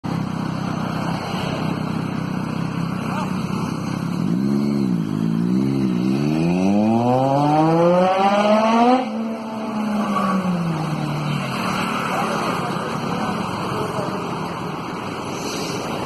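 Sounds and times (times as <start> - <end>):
motorcycle engine revving: 0.1 - 16.0.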